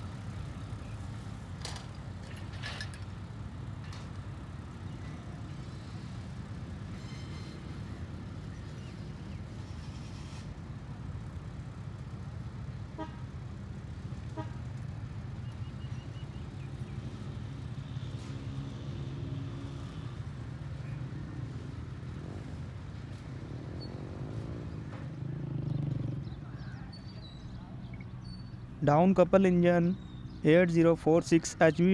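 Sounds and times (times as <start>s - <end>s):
diesel engine droning: 0.0s - 31.9s.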